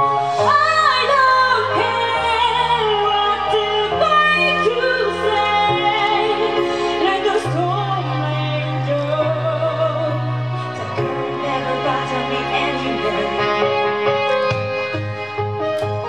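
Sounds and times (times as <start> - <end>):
backing track with bass: 0.0 - 16.0
woman singing pop vocals: 0.3 - 13.8.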